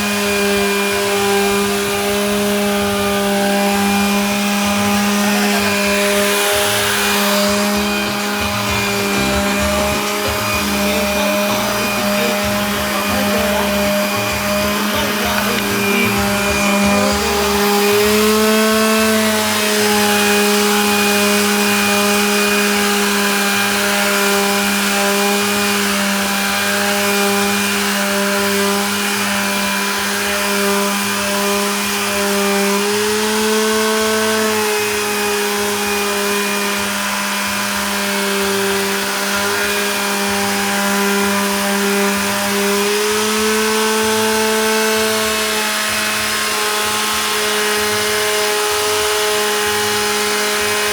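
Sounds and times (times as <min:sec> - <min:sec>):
power tool motor cutting wood: 0:00.0 - 0:50.9.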